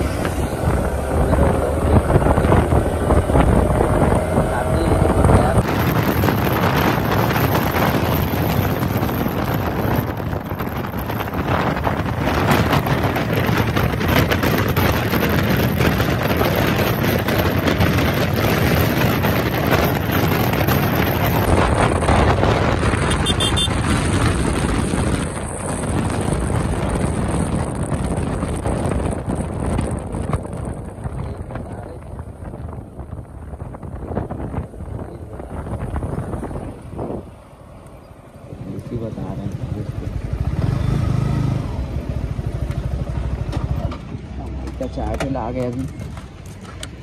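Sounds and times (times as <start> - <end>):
motorcycle running: 0.0 - 47.0
road noise: 0.0 - 47.0
wind rushing over microphone: 0.0 - 47.0.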